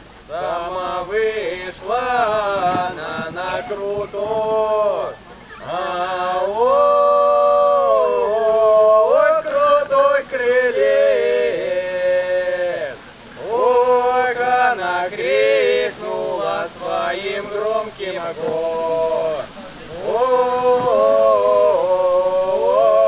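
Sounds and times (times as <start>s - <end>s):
men singing unaccompanied: 0.2s - 23.0s.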